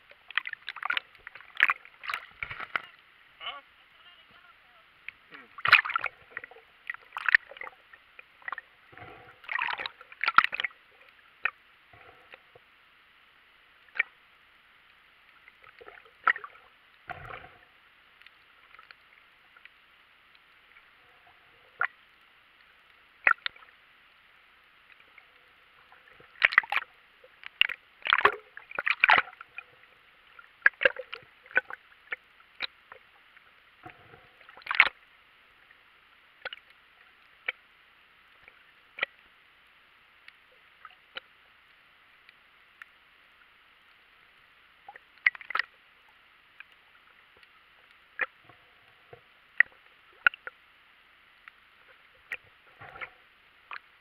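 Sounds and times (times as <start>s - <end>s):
faint steady underwater hiss: 0.0s - 54.0s.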